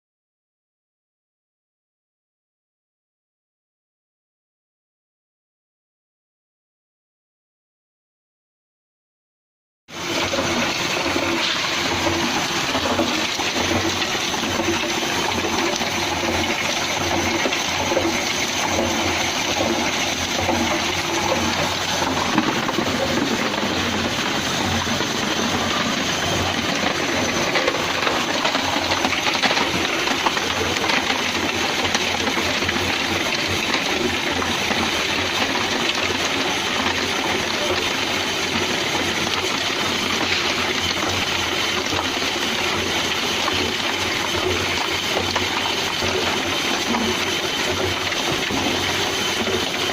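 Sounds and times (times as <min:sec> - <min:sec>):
flowing water rushing: 0:09.9 - 0:49.9
ice machine running: 0:09.9 - 0:49.9.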